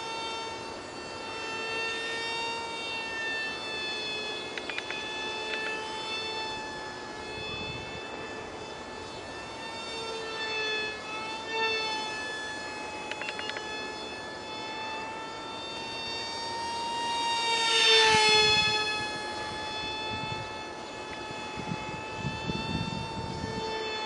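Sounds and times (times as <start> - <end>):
small electric motor and propeller whine: 0.0 - 24.0.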